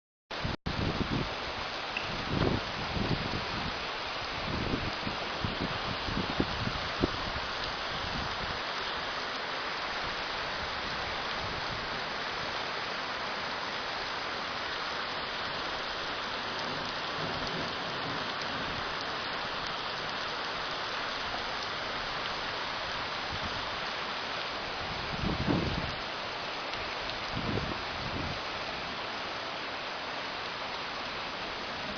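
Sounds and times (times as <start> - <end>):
steady rain falling: 0.4 - 31.9.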